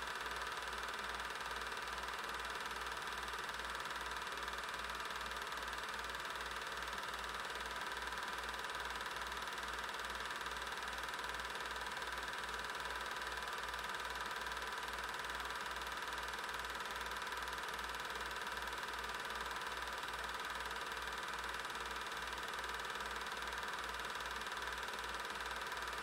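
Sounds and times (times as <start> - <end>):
film projector running: 0.0 - 26.0.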